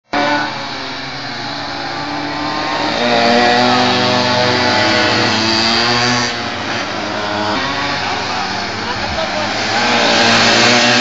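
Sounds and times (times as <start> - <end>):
small two-stroke engines buzzing: 0.1 - 11.0.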